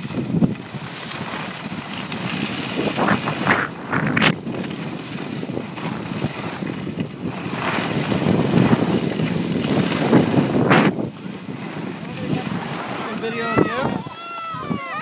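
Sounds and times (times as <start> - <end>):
skis hissing over snow: 0.0 - 15.0
wind buffeting microphone: 0.0 - 15.0.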